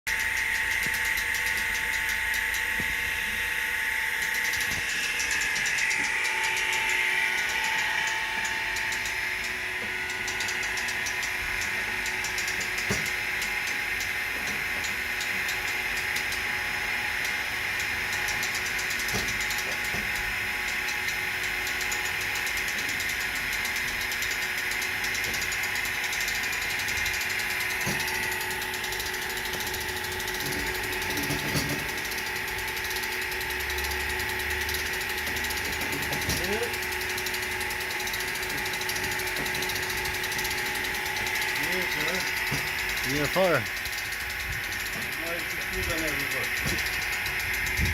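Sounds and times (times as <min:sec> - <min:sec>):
crane motor whining: 0:00.1 - 0:47.9.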